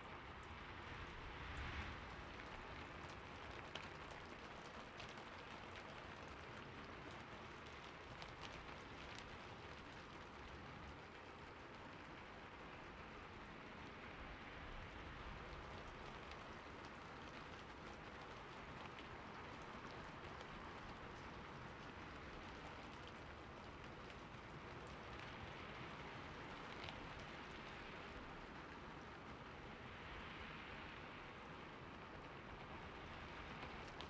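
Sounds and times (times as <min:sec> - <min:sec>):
rain falling on a roof: 0:00.0 - 0:34.0.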